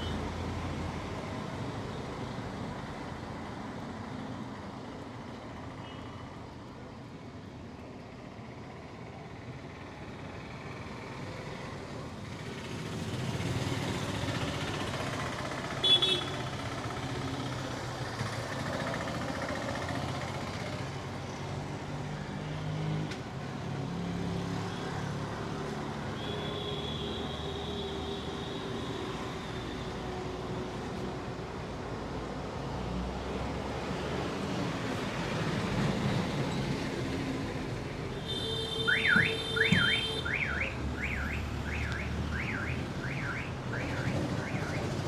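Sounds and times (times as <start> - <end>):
hum of passing traffic: 0.0 - 45.0.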